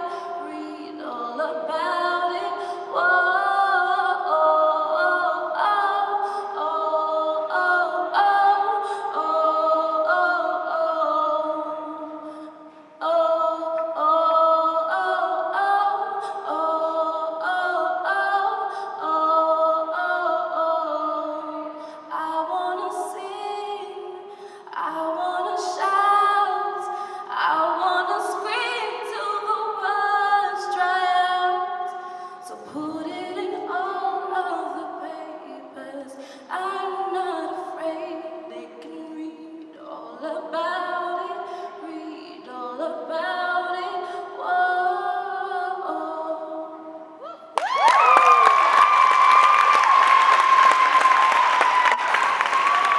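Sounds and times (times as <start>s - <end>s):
a cappella group singing harmony: 0.0s - 48.1s.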